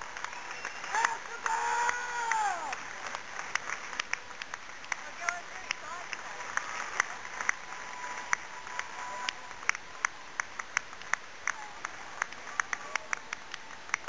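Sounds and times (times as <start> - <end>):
scattered handclaps: 0.0 - 14.0.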